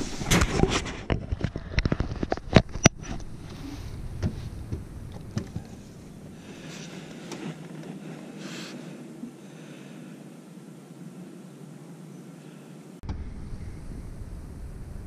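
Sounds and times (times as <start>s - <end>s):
low rumbling background noise: 2.5s - 15.0s.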